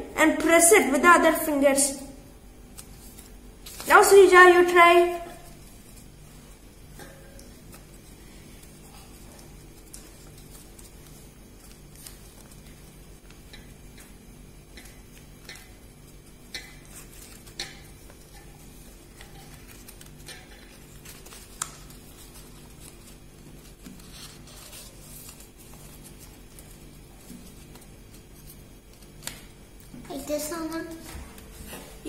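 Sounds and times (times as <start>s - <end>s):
low background hum: 0.0s - 32.0s
paper crinkling: 2.6s - 31.9s.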